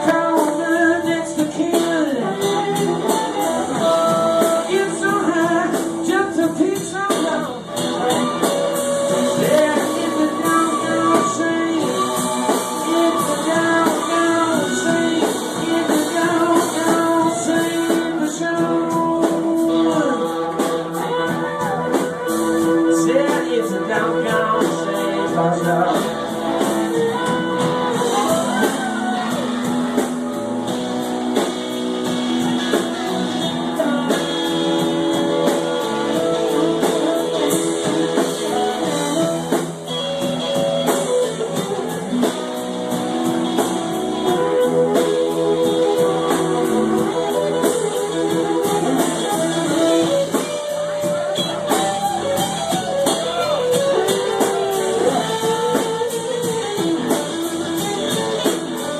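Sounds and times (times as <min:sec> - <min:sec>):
blues guitar: 0:00.0 - 0:58.9
drum kit beat: 0:00.0 - 0:58.9.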